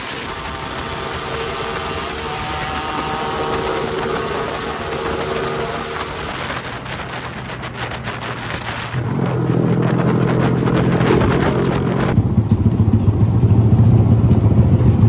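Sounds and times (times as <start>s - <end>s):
wind rushing: 0.0s - 12.4s
motorcycle engine running: 0.0s - 15.0s
road noise: 0.0s - 15.0s.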